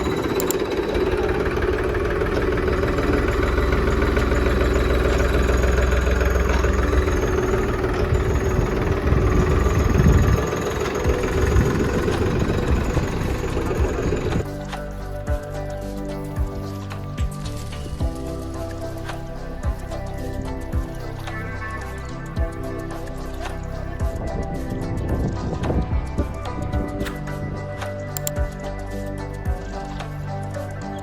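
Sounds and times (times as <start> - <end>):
tractor engine running: 0.0 - 30.2.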